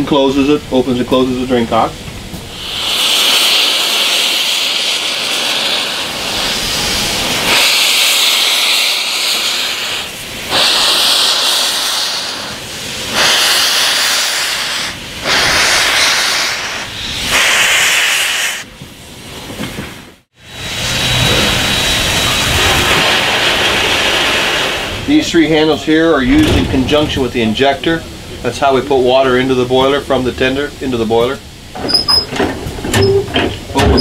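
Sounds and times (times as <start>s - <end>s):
steam locomotive hissing blasts: 0.0s - 34.0s.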